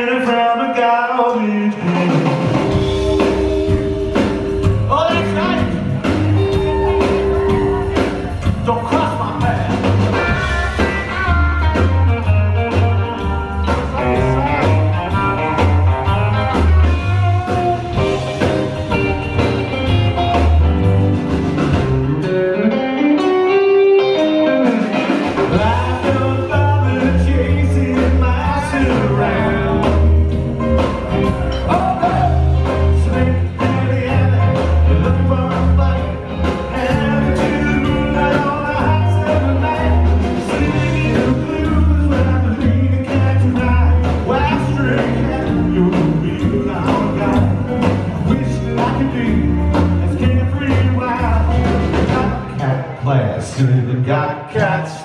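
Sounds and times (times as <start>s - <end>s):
drums: 1.2s - 55.0s
electric guitar lead: 2.1s - 53.2s
slapped upright bass: 2.6s - 22.4s, 25.4s - 53.8s.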